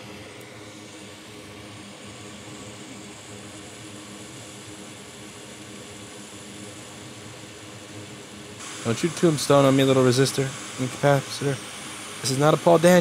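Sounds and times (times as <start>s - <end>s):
hot air station blowing with hum: 0.0s - 13.0s.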